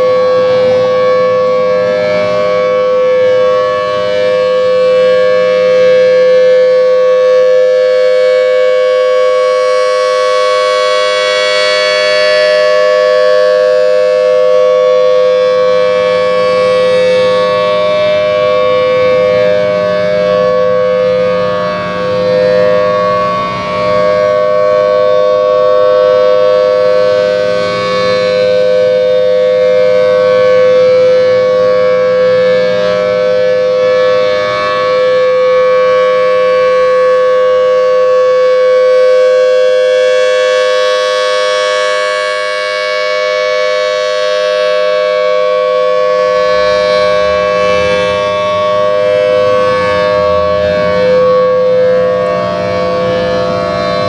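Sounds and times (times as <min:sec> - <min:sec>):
siren steady tone: 0:00.0 - 0:54.0.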